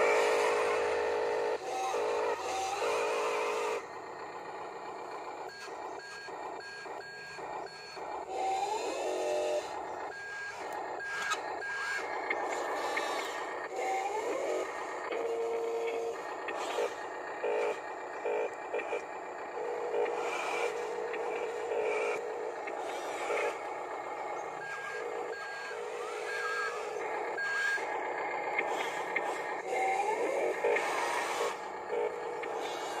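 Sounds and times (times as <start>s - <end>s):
small electric motors whirring: 0.0s - 3.9s, 5.0s - 33.0s.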